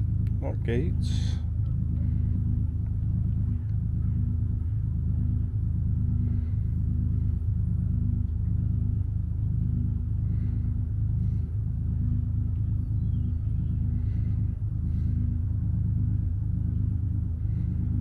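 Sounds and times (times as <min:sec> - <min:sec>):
engine droning hum: 0:00.0 - 0:18.0.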